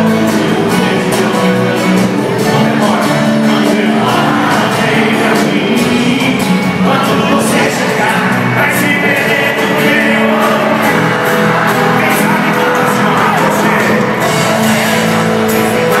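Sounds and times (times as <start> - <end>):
live band playing: 0.0 - 16.0
voices singing: 0.0 - 16.0.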